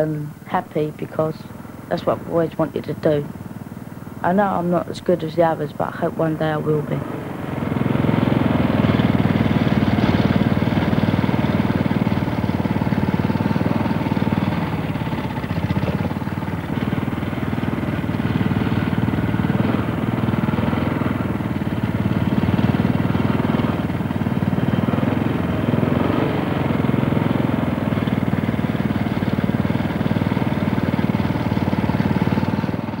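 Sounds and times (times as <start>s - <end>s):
off-road motorcycle engine running: 0.0s - 33.0s.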